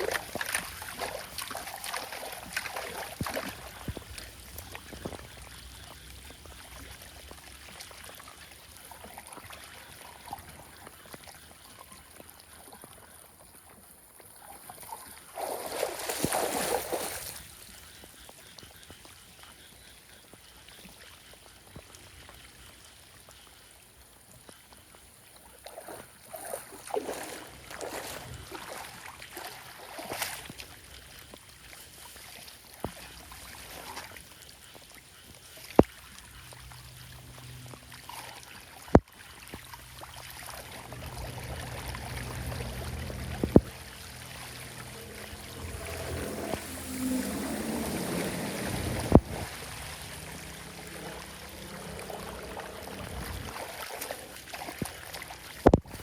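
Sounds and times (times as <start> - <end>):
water splashing: 0.0 - 23.4, 24.5 - 56.0
floodwater running and trickling: 0.0 - 56.0.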